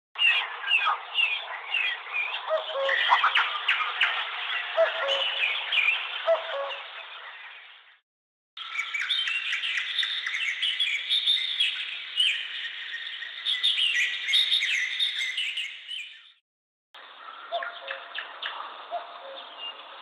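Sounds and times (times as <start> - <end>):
birds chirping and twittering: 0.2 - 8.0, 8.6 - 16.4, 17.0 - 20.0.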